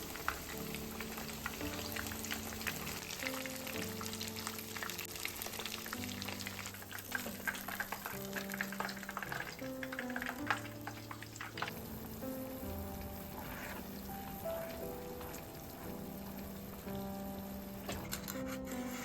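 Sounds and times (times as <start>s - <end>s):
food sizzling in a pan: 0.0s - 19.0s
soft music with held notes: 0.0s - 19.0s.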